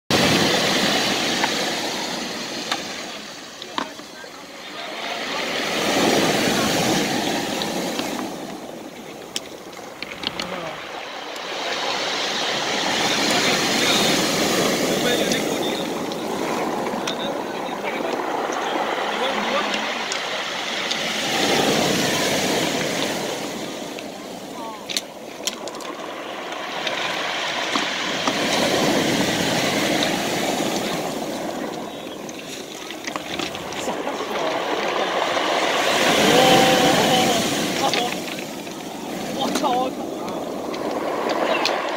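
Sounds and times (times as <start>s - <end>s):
sea waves washing on shore: 0.1s - 41.9s.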